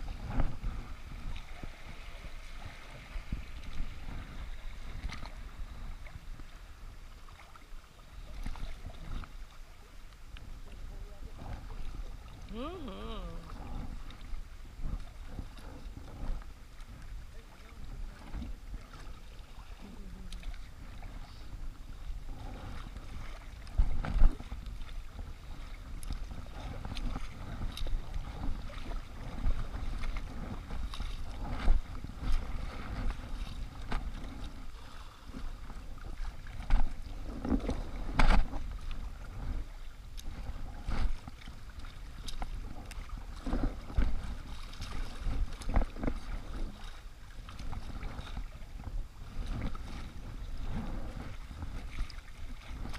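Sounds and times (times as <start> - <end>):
low wind rumble on microphone: 0.0 - 52.9
paddle stroke splashes: 0.0 - 52.9
water lapping against kayak hull: 0.0 - 52.9.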